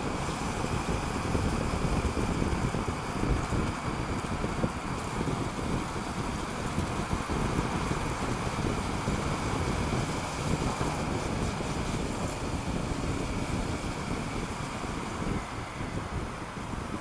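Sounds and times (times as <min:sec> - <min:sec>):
motorcycle cruising: 0:00.0 - 0:17.0
tunnel traffic noise: 0:00.0 - 0:17.0
wind rushing over microphone: 0:00.0 - 0:17.0.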